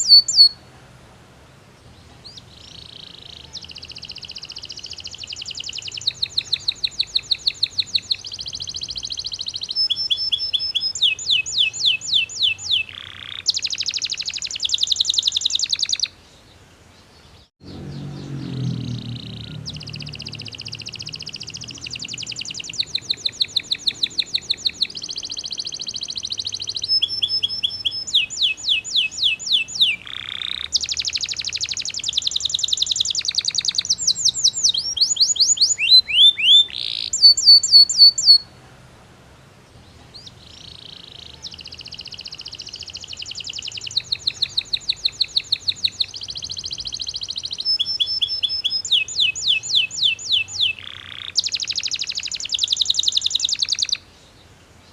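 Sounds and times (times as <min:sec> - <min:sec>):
canary singing trills: 0:00.0 - 0:00.7, 0:02.0 - 0:16.2, 0:17.2 - 0:38.5, 0:40.0 - 0:54.1.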